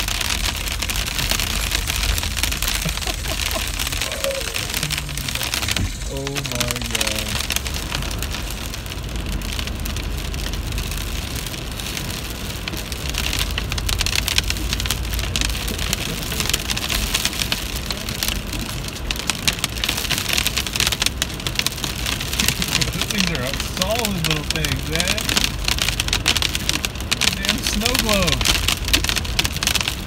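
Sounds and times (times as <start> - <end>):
hailstones pelting a vehicle: 0.0 - 30.0
vehicle low rumble: 0.0 - 30.0.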